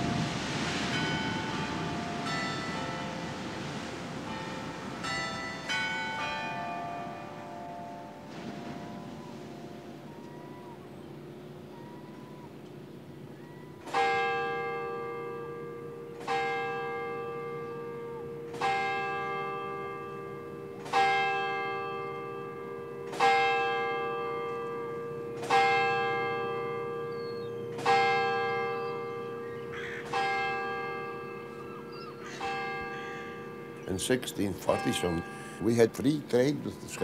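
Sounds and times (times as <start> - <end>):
bell tolling slowly: 0.0 - 37.0.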